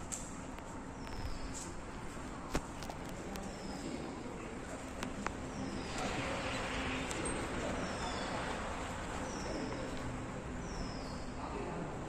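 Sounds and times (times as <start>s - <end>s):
hall background noise: 0.0s - 12.0s.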